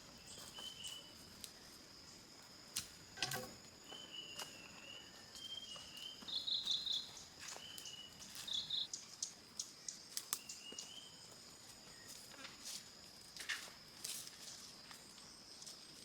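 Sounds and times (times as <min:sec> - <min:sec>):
insect chirping calls: 0:00.0 - 0:16.0
insect high-pitched buzz: 0:00.0 - 0:16.0.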